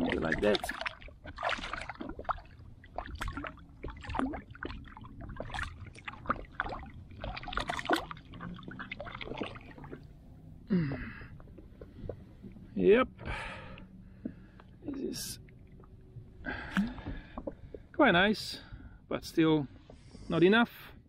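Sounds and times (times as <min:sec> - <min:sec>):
low steady rumble: 0:00.0 - 0:21.0
water splashing against a boat: 0:00.0 - 0:21.0.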